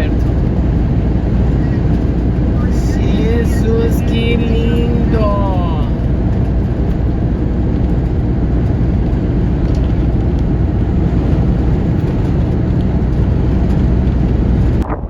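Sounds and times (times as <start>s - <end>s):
car driving at speed: 0.0s - 15.0s
road and wind noise: 0.0s - 15.0s.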